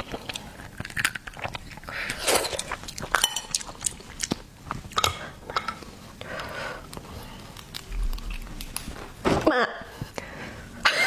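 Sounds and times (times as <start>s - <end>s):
biting and chewing seafood: 0.0s - 9.2s.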